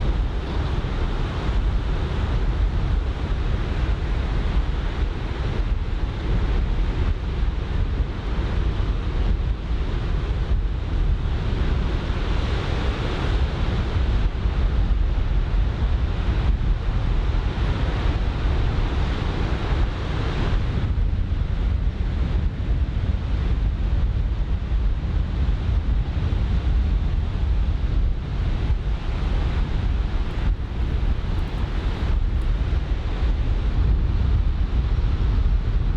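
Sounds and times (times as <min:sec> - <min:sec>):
wind rumble on microphone: 0:00.0 - 0:35.9.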